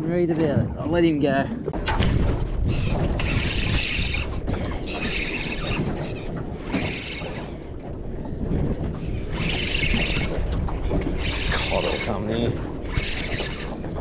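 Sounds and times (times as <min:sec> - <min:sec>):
water lapping against boat: 0:00.0 - 0:14.0
wind buffeting microphone: 0:00.0 - 0:14.0.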